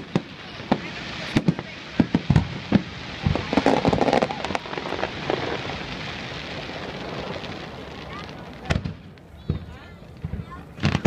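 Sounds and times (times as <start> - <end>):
fireworks bangs: 0.0 - 11.0
fireworks crackling pops: 0.0 - 11.0.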